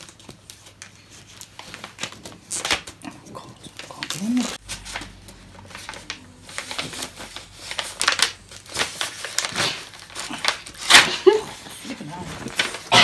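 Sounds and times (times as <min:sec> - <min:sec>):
paper envelope and card rustling: 0:00.0 - 0:13.0.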